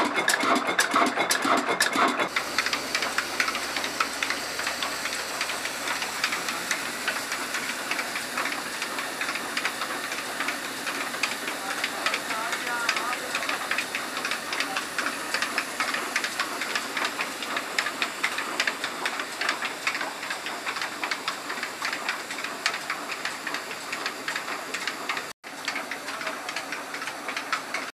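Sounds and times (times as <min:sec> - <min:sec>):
grain crusher grinding: 0:00.0 - 0:27.9.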